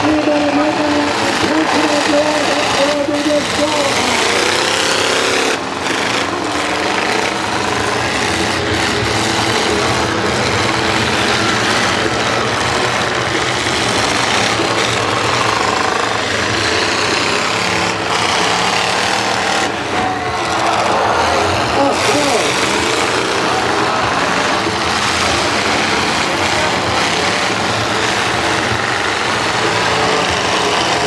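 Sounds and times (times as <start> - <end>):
car engines running hard: 0.0 - 31.0.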